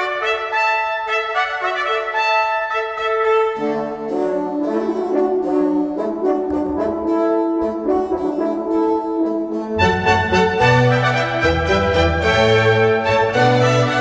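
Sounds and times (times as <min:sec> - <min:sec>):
brass background music: 0:00.0 - 0:14.0.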